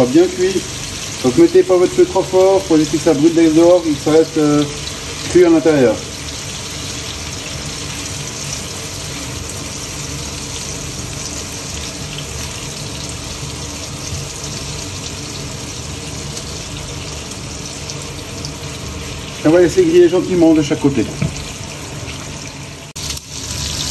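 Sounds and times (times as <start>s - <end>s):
chicken sizzling in a frying pan: 0.0s - 23.9s.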